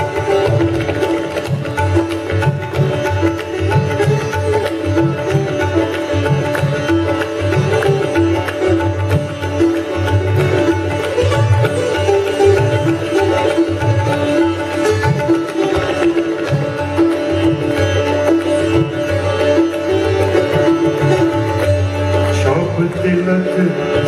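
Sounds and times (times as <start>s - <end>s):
plucked sitar melody: 0.0s - 24.0s
tabla drumming: 0.0s - 24.0s.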